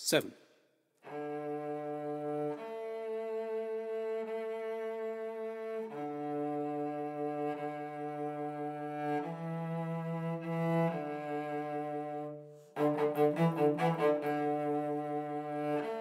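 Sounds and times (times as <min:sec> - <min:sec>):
solo cello playing: 0:01.0 - 0:16.0.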